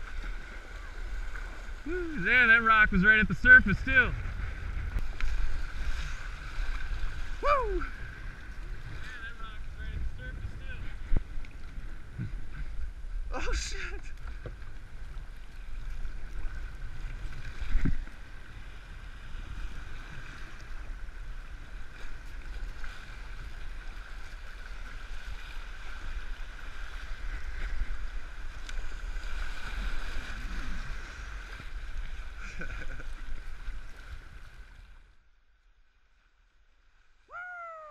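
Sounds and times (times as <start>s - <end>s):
wind rumble on microphone: 0.0s - 35.0s
river water rushing against kayak: 0.0s - 35.3s.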